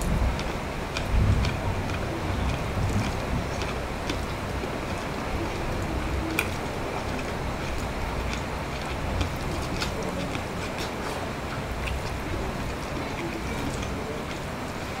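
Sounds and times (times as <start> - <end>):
eating clicks and smacks: 0.0 - 14.9
steady rain falling: 0.0 - 15.0.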